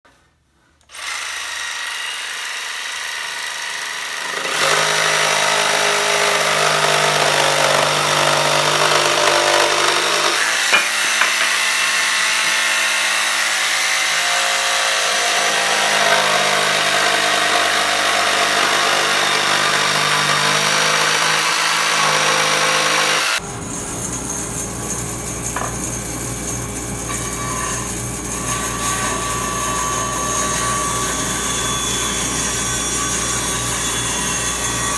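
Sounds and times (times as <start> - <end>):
woodworking machine cutting wood: 0.9 - 34.9.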